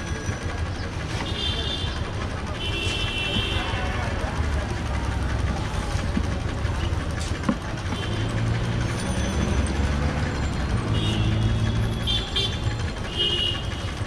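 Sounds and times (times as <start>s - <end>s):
street traffic: 0.0s - 14.0s
vehicle engine running: 0.0s - 14.0s.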